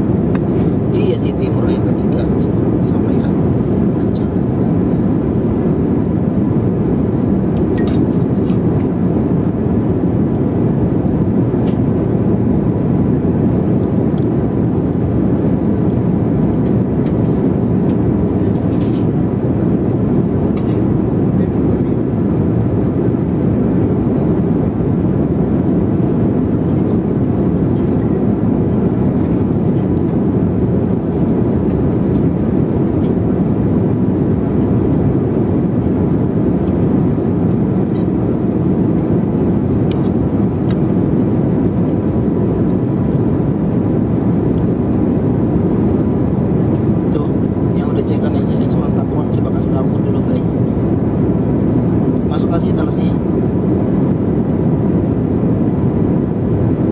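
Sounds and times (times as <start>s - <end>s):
jet airliner cabin rumble: 0.0s - 56.9s.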